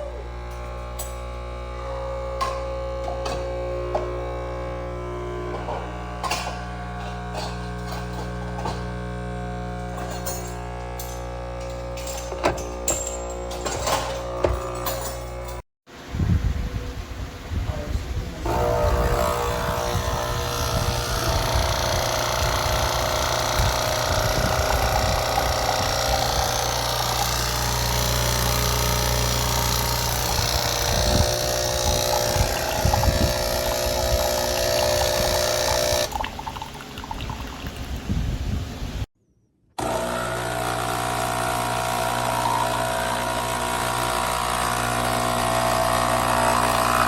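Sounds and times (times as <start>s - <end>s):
espresso machine pump humming: 0.0s - 15.6s, 18.4s - 38.0s, 39.8s - 47.0s.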